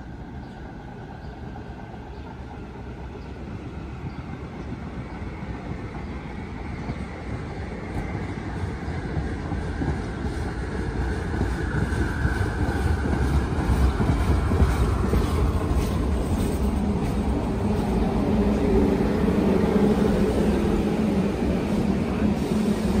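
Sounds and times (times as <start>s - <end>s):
subway train wheels rumbling: 0.0s - 23.0s.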